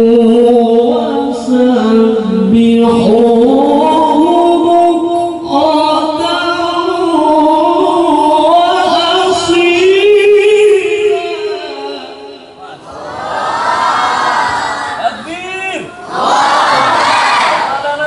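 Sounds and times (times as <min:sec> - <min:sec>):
man reciting melodically into microphone: 0:00.0 - 0:13.0, 0:15.0 - 0:16.1, 0:17.6 - 0:18.0.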